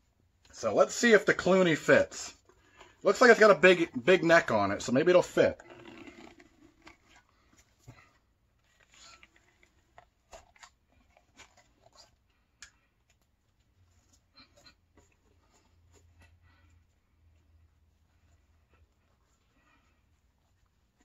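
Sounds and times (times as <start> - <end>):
faint rubbing and handling: 0.0 - 21.0.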